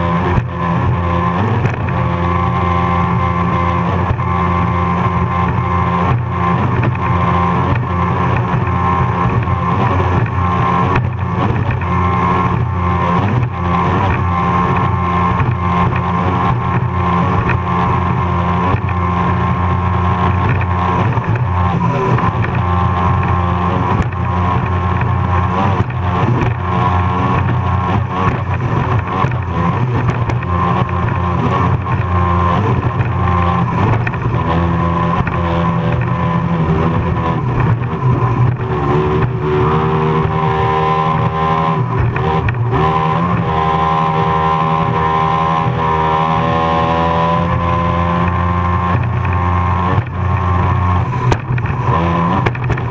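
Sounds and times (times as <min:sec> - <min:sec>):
boat engines at full speed: 0:00.0 - 0:52.9.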